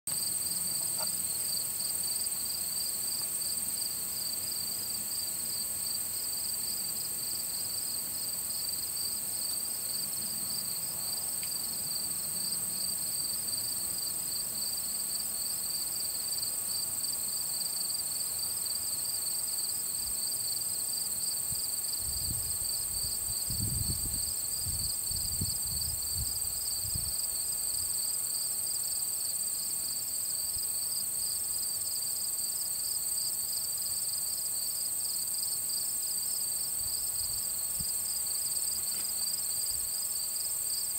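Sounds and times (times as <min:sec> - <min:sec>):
crickets and insects chirping: 0:00.1 - 0:40.9.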